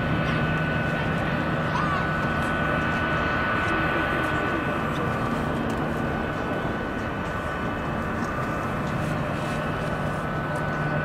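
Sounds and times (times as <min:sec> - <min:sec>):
jet engines whining: 0:00.0 - 0:11.0
low engine rumble: 0:00.0 - 0:11.0.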